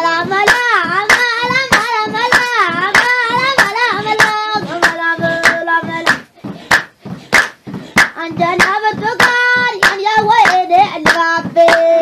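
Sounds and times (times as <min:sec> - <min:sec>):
steady hand-clapping: 0:00.0 - 0:12.0.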